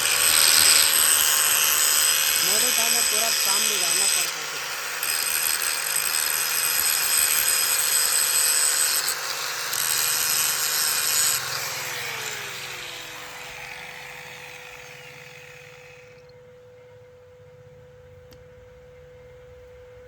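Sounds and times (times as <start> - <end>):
power tool whining: 0.0 - 16.4.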